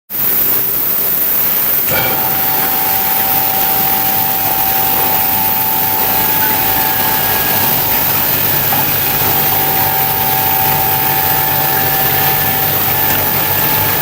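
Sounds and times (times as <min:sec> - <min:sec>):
water bubbling with steady hiss: 0:00.1 - 0:14.0
steady humming tone: 0:01.0 - 0:14.0.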